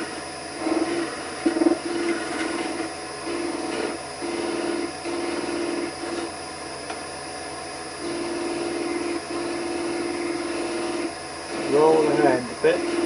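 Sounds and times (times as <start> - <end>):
wood lathe running: 0.0 - 6.3, 8.0 - 13.0.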